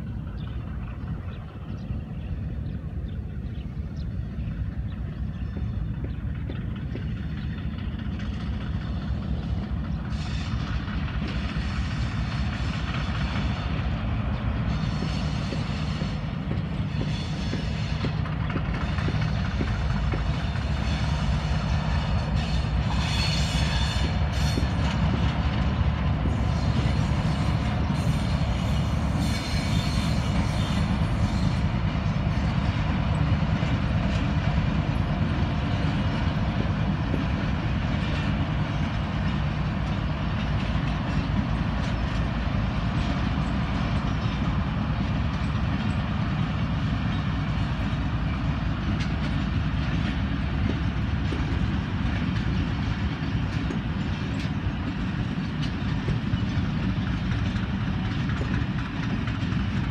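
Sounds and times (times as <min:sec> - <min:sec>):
diesel locomotive engine drone: 0:00.0 - 0:59.9
train wheels on rails: 0:00.0 - 0:59.9.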